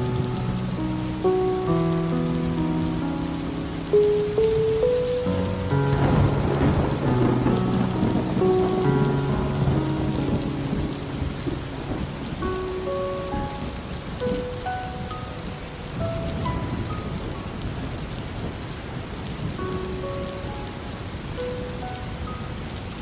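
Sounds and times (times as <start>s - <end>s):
slow melody of held notes: 0.0s - 23.0s
steady rain falling: 0.0s - 23.0s.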